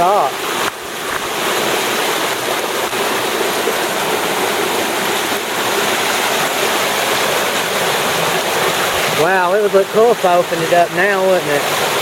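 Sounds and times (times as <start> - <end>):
water rushing over a dam: 0.0 - 12.0.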